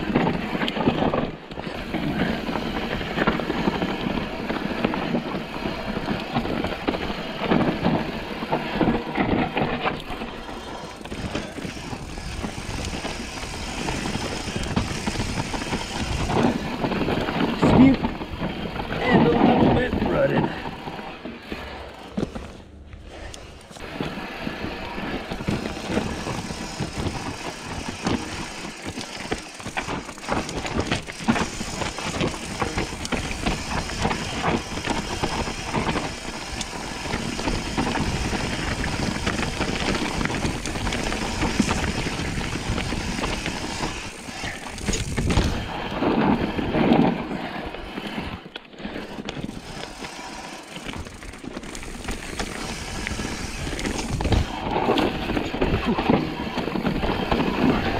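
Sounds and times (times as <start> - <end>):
bike rattling and knocking: 0.0 - 57.9
tyres crunching over dirt and rock: 0.0 - 57.9.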